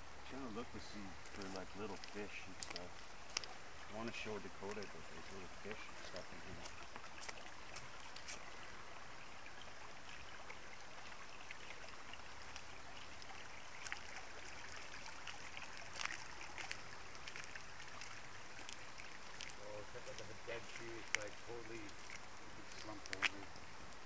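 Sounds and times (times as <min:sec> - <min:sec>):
creek trickling over rocks: 0:00.0 - 0:24.0.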